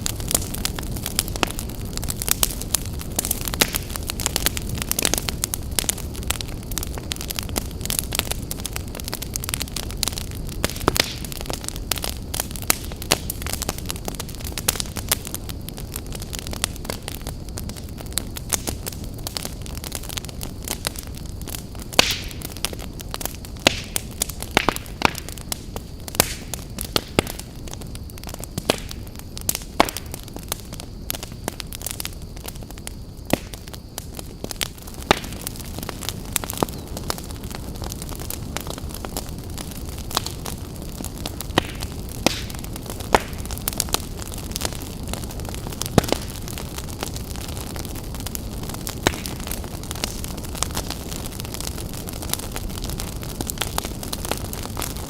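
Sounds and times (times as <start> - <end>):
campfire rumble: 0.0 - 55.0
fire crackling and popping: 0.0 - 55.0.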